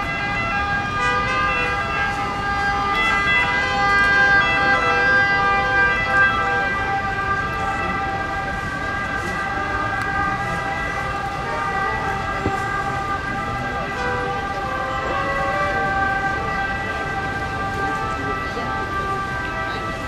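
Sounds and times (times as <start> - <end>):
emergency vehicle siren: 0.0 - 20.0.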